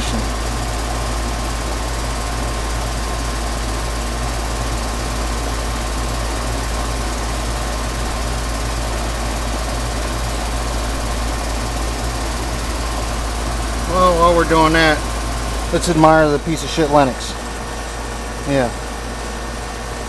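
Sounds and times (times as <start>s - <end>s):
air conditioner unit humming: 0.0s - 20.0s.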